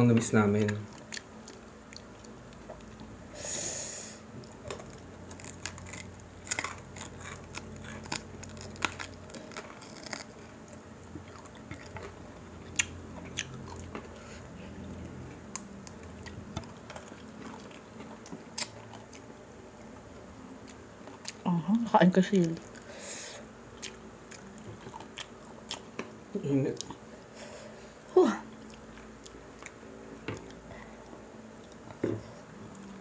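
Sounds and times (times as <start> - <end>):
chewing crispy pork: 0.3 - 3.3, 4.3 - 27.3, 27.9 - 33.0.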